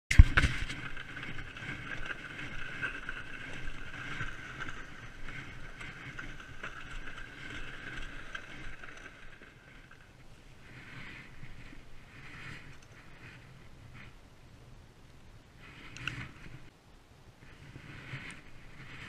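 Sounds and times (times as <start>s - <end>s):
plastic sleds scraping over ice: 0.1s - 14.2s, 17.4s - 19.0s.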